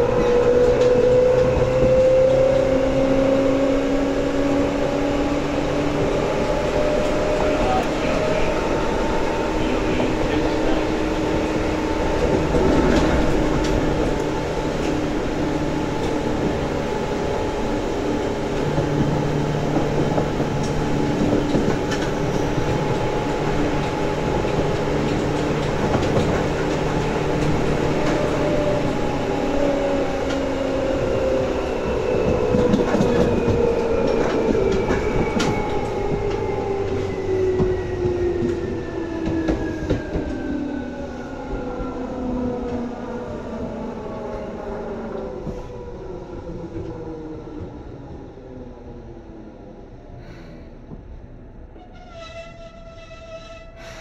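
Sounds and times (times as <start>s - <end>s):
rail clicks: 0.0s - 2.2s, 4.3s - 48.2s
train wheel noise: 0.0s - 54.0s.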